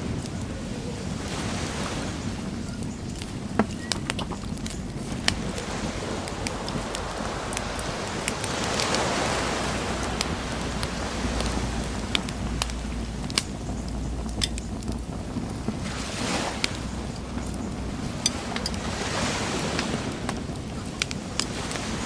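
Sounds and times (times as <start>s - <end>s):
ocean waves breaking: 0.0s - 22.0s
wood fire crackling: 0.0s - 22.0s.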